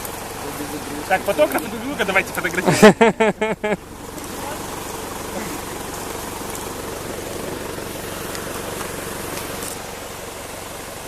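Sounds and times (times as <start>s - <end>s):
engine idling: 0.0s - 11.0s
waterfall rushing: 0.0s - 11.0s.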